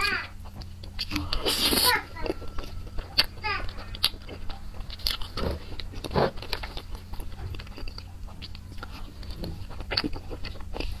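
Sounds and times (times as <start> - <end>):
low steady hum: 0.0 - 11.0
mouth smacks and chewing: 0.4 - 11.0.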